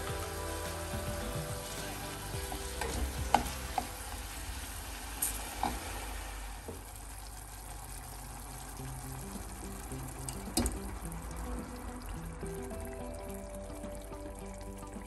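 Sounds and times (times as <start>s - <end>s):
pancetta and onion sizzling: 0.0s - 15.0s.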